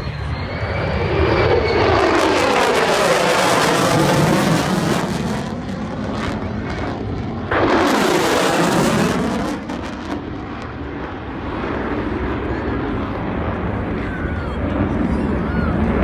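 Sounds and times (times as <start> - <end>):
jet aircraft flying past: 0.0 - 16.0.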